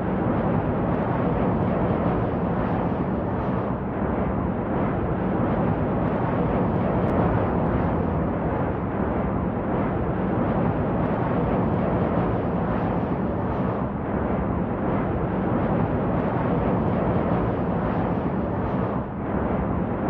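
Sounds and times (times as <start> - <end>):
jet airliner drone in flight: 0.0 - 20.0.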